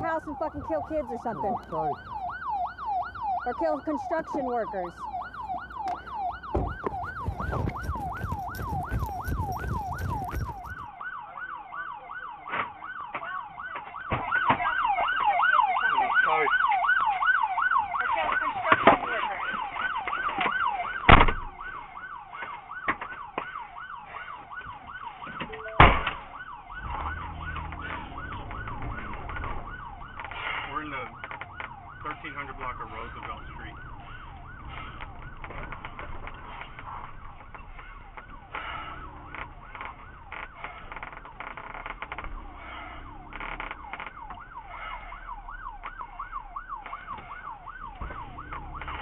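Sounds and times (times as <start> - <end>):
emergency siren yelping: 0.0 - 49.0.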